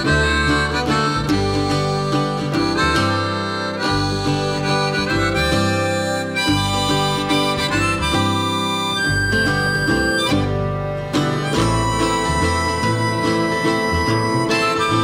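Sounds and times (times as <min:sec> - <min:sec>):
guitar: 0:00.0 - 0:15.0
harmonica melody: 0:00.0 - 0:15.0.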